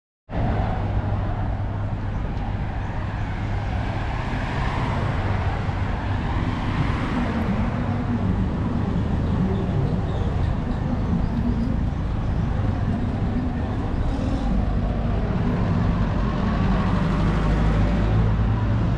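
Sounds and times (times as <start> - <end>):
car approaching: 0.3 - 18.9
low rumble of traffic: 0.3 - 18.9.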